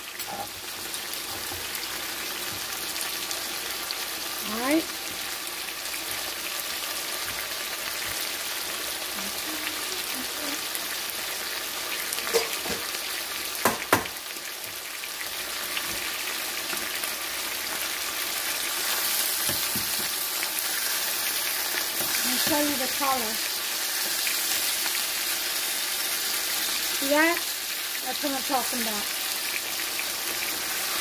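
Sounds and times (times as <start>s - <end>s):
chicken sizzling in oil: 0.0s - 31.0s.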